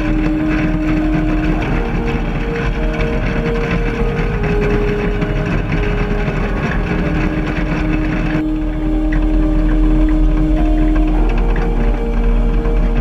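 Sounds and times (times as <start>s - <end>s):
combine harvester hum: 0.0s - 13.0s.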